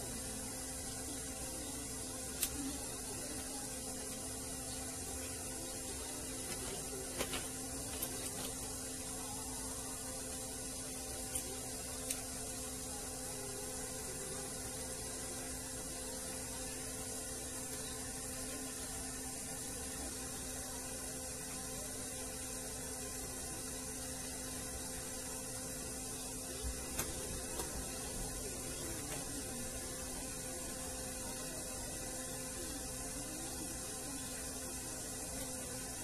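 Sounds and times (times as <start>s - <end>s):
electrical hum: 0.0s - 36.0s.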